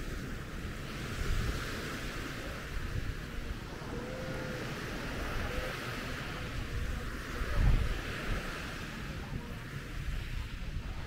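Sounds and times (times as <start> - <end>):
surf washing onto shore: 0.0 - 11.0
wind rumbling on microphone: 0.0 - 11.0.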